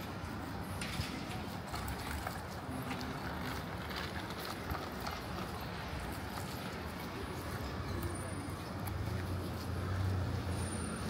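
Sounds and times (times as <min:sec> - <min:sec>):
distant city traffic: 0:00.0 - 0:11.0
footsteps on pavement: 0:00.0 - 0:11.0
wind: 0:00.0 - 0:11.0.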